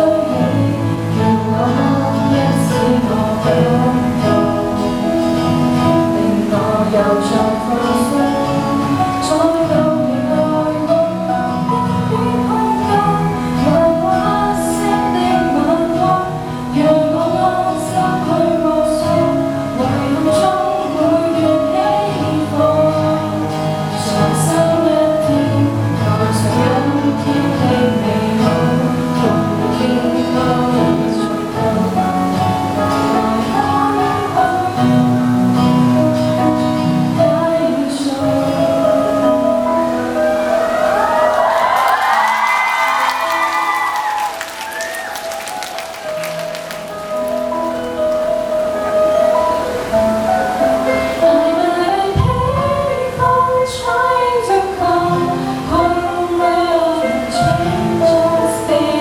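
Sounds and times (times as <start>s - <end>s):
woman singing: 0.0s - 45.1s, 50.5s - 59.0s
guitar accompaniment: 0.0s - 59.0s.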